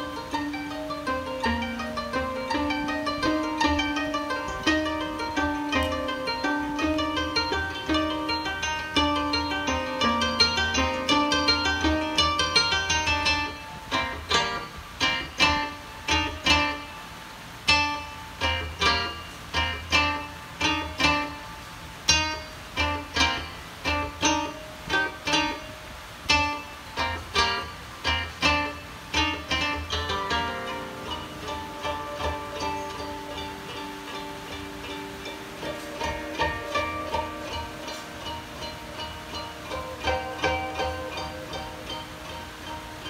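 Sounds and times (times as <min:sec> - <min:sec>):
koto plucked notes: 0:00.0 - 0:43.0.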